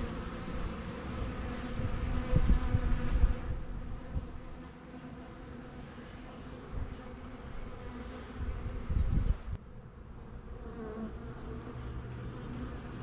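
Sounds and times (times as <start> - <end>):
honey bee swarm buzzing: 0.0 - 13.0.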